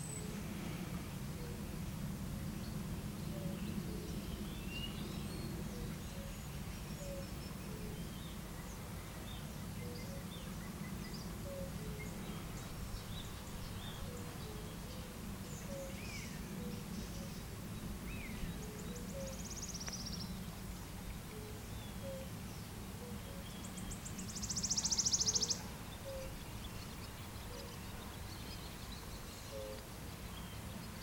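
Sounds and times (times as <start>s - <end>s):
faint songbird chirps: 0.0s - 31.0s.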